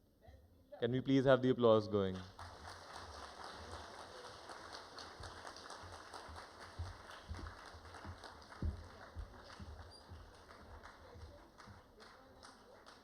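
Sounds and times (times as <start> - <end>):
crowd applauding: 2.2 - 13.0.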